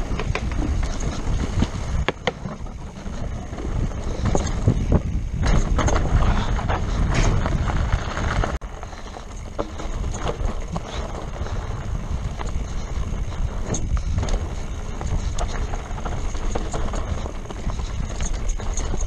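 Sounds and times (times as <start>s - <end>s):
bike rattles and knocks: 0.0s - 19.0s
bike tyres on dirt trail: 0.0s - 19.0s
wind rumble on microphone: 0.0s - 19.0s.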